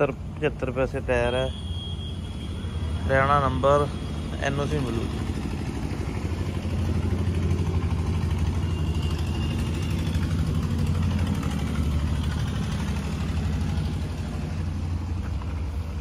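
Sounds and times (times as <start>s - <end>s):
diesel tractor engine idling: 0.0s - 16.0s.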